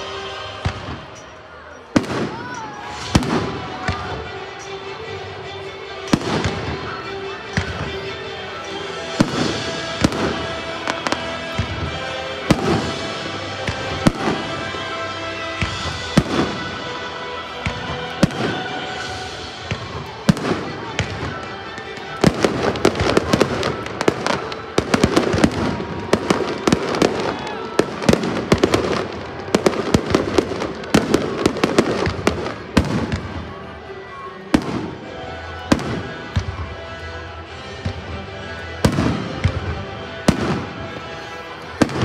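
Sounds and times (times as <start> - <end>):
fireworks bursting: 0.0 - 36.7, 37.8 - 42.0
music playing: 0.0 - 42.0.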